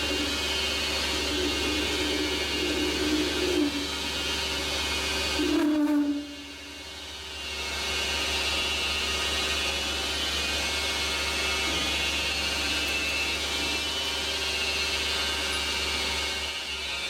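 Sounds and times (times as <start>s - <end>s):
metal lathe running: 0.0s - 17.0s.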